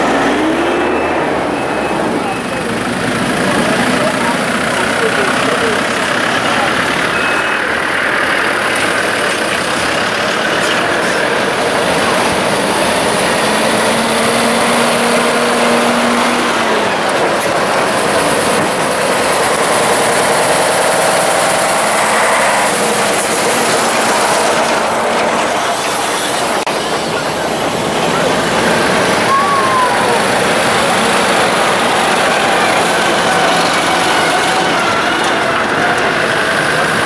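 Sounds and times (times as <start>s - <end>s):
vehicle engines driving past: 0.0s - 37.0s.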